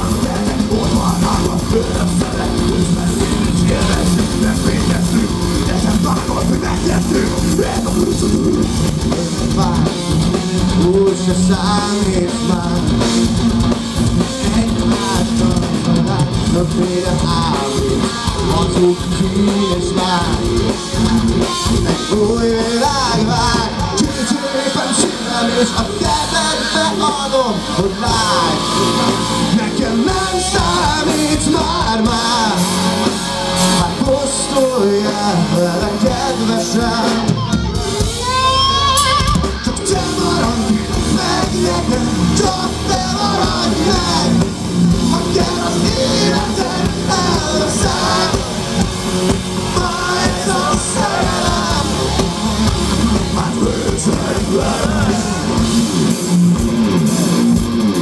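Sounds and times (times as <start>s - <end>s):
man singing: 0.0s - 37.7s, 38.3s - 56.2s
live rock band playing: 0.0s - 58.0s.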